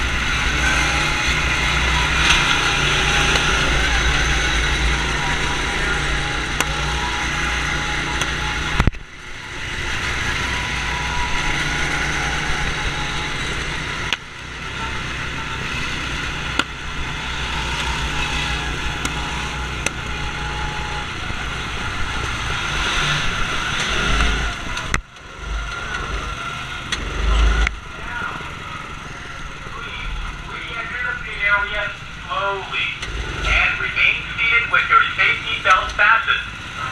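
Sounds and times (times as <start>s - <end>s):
go-kart engine running: 0.0s - 36.9s.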